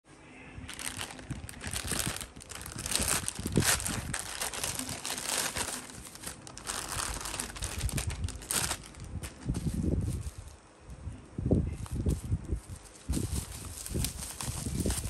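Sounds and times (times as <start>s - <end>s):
packaging crinkling and rustling: 0.7s - 10.6s, 11.8s - 15.0s.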